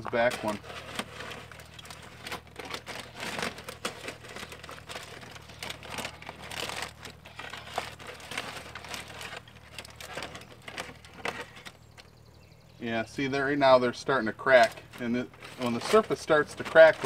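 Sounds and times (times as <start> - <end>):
aluminium foil crinkling: 0.0 - 12.1, 14.4 - 17.0.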